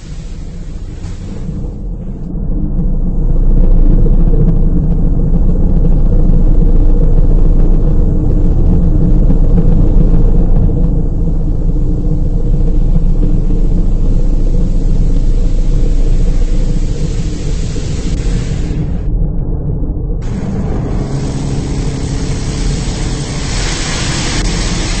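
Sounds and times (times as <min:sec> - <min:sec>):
car wash machinery rumbling: 0:00.0 - 0:25.0.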